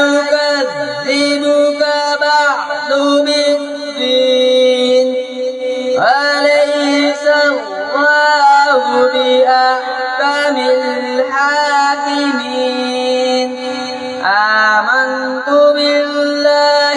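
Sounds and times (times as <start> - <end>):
boy chanting through loudspeakers: 0.0 - 16.9.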